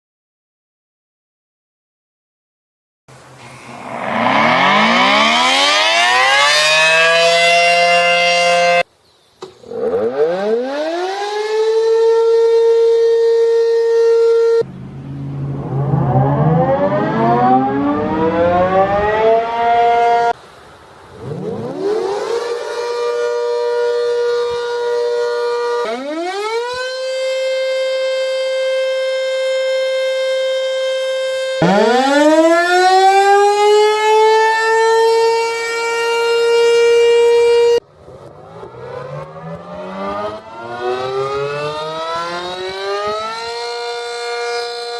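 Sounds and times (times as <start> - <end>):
tornado warning siren wailing: 3.4 - 8.9, 9.7 - 20.4, 21.2 - 44.9.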